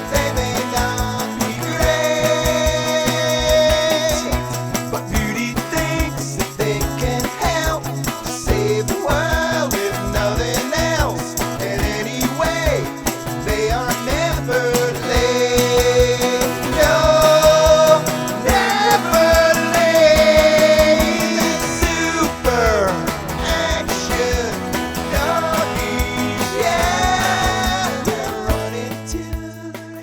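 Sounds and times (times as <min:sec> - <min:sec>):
bass: 0:00.0 - 0:30.0
drum beat: 0:00.0 - 0:30.0
guitar: 0:00.0 - 0:30.0
person singing: 0:00.0 - 0:30.0.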